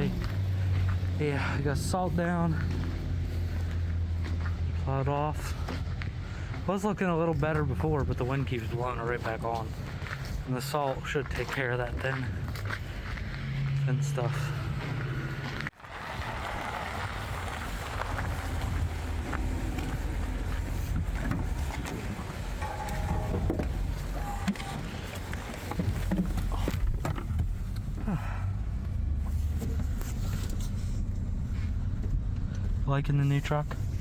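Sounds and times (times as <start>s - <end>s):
road noise: 0.0s - 34.0s
truck engine rumble: 0.0s - 34.0s.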